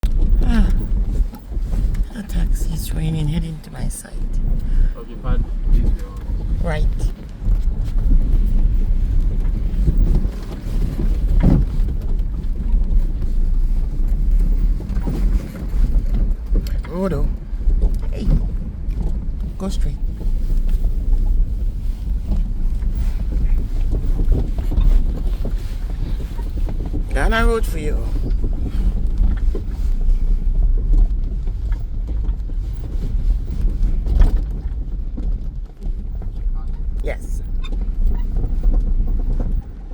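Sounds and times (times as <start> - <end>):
engine and tyres rumbling: 0.0 - 39.9
vehicle jolt: 0.0 - 39.9
wind buffeting microphone: 0.0 - 39.9.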